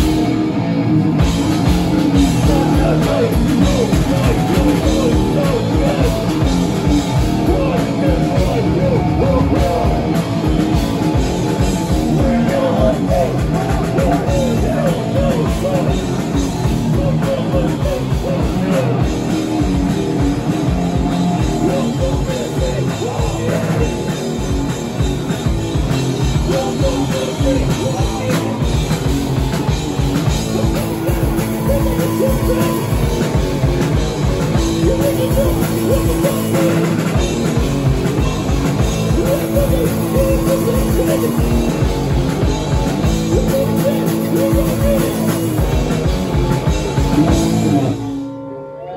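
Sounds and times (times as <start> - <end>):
drum kit: 0.0 - 48.2
bass guitar: 0.0 - 48.9
electric guitar: 0.0 - 48.9
person singing: 1.6 - 10.3, 11.7 - 24.2, 26.2 - 48.9.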